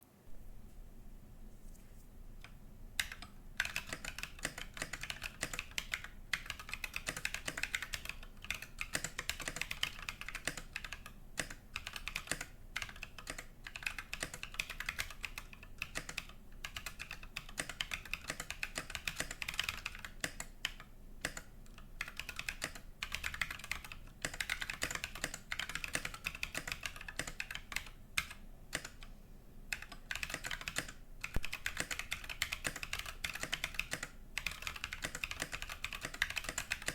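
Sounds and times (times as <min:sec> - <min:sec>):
fast mechanical keyboard typing: 0:03.0 - 0:29.1, 0:29.7 - 0:36.9.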